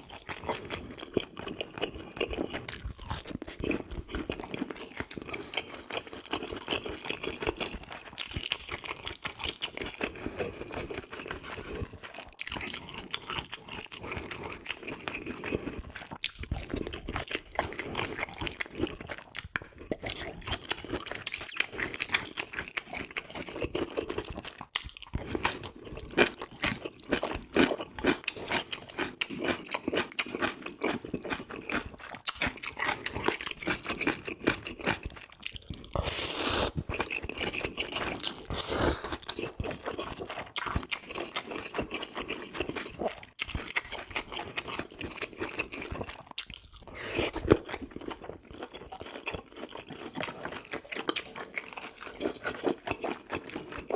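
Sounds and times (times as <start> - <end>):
crunchy chewing and biting: 0.0 - 53.9.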